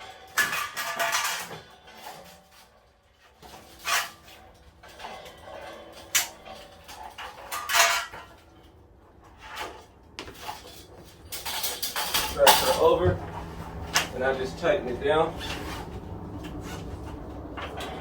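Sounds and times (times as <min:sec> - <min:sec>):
metallic clanks and knocks: 0:00.0 - 0:18.0.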